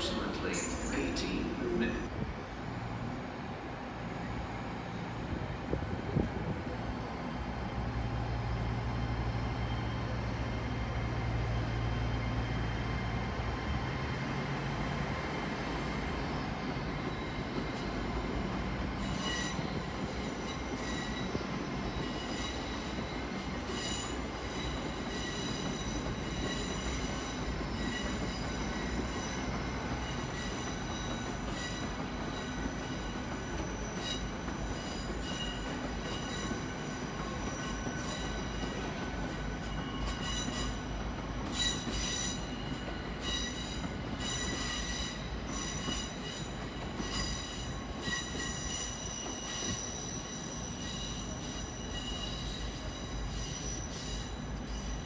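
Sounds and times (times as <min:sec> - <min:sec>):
train wheels squealing: 0:06.9 - 0:55.0.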